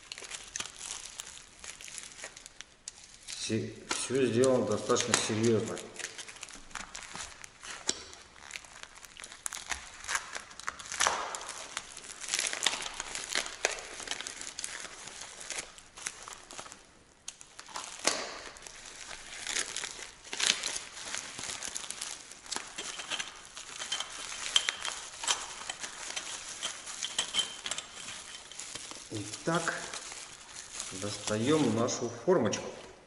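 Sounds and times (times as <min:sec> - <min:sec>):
bubble wrap crinkling: 0:00.0 - 0:33.0.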